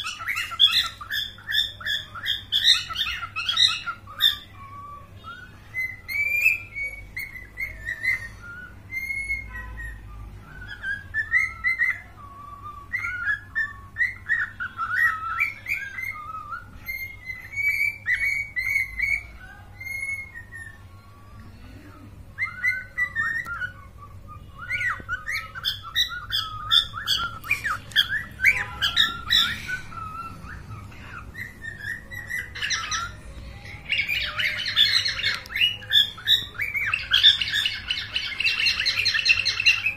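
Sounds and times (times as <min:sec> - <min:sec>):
cockatiel chirping and whistling: 0:00.0 - 0:21.0, 0:22.4 - 0:39.9.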